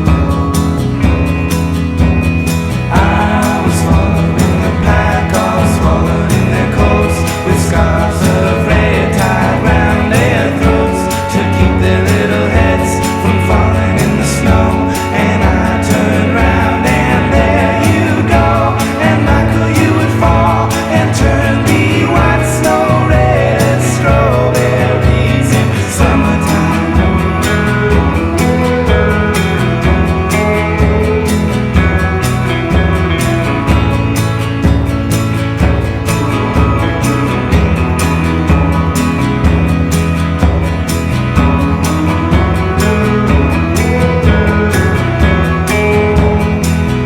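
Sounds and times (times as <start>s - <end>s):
instrumental song with pulsing bass: 0.0s - 47.0s.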